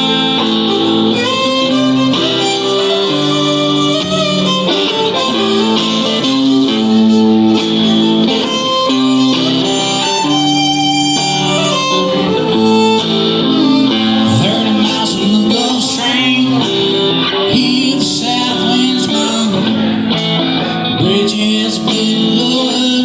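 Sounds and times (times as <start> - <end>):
guitar: 0.0 - 23.0
live country music: 0.0 - 23.0.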